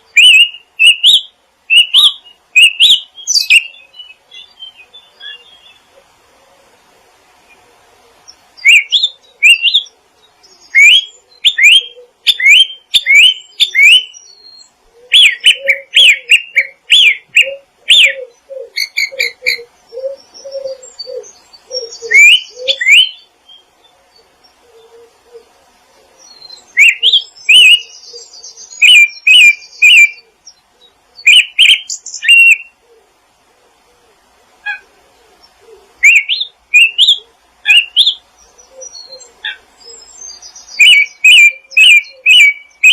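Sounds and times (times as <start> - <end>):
lower repeated bird call notes: 0.0 - 42.9
songbirds chirping: 0.0 - 42.9.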